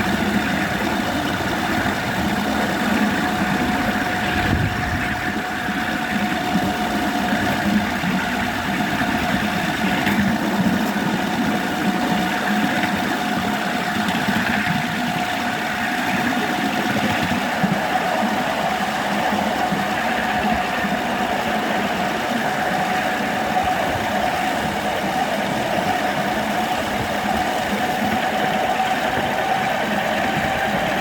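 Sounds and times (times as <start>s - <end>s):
miniature electric locomotive hum: 0.0s - 31.0s.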